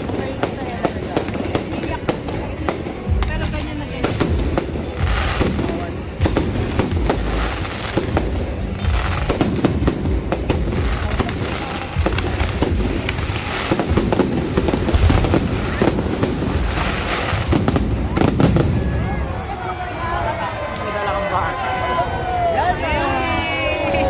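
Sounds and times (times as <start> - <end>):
fireworks bursting and crackling: 0.0 - 20.3.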